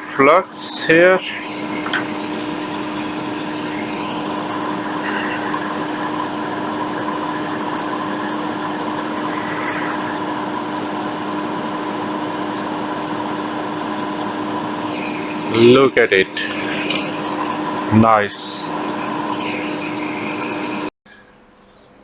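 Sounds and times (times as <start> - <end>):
hot air blower humming: 0.0 - 20.9.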